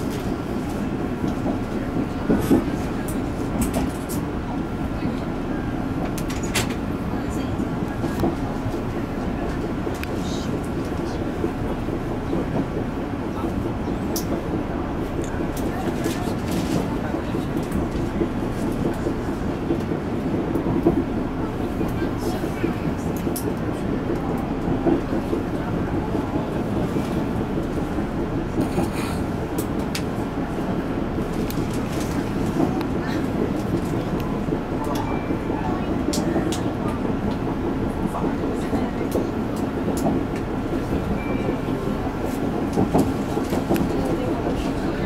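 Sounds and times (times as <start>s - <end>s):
train wheels rumbling: 0.0s - 45.0s.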